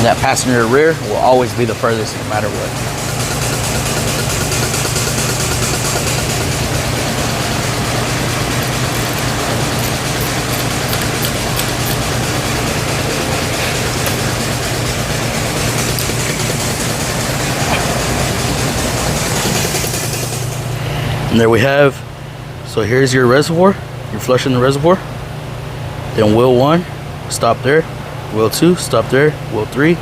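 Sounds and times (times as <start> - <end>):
machine hum and hiss: 0.0 - 30.0.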